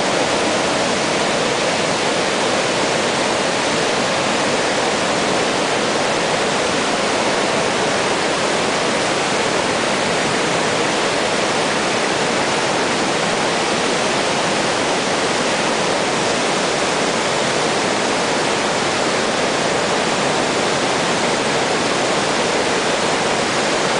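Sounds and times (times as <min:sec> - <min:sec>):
river rushing over rapids: 0:00.0 - 0:23.9.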